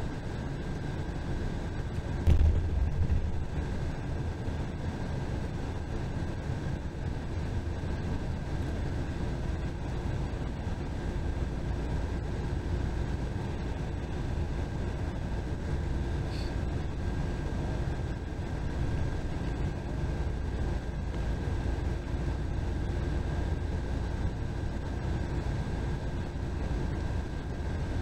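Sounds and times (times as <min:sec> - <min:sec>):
bus engine and tyre rumble: 0:00.0 - 0:28.0
faint steady whine: 0:00.0 - 0:28.0.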